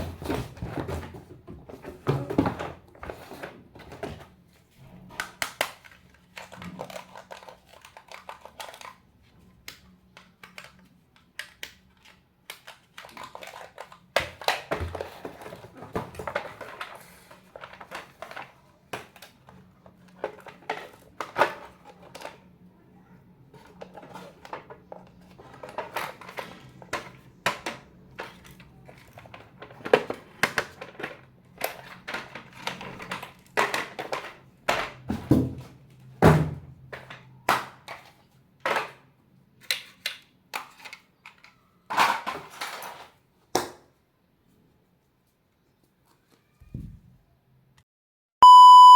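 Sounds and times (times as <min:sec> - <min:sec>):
plastic toys and packaging handled: 0:00.0 - 0:47.5.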